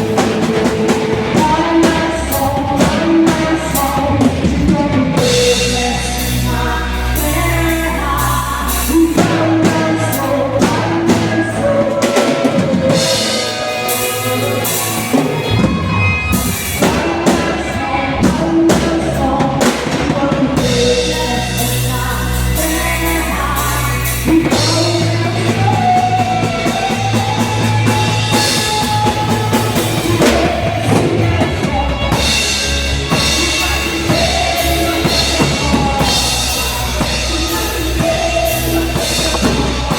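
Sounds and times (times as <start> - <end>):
gospel song with band: 0.0 - 39.9.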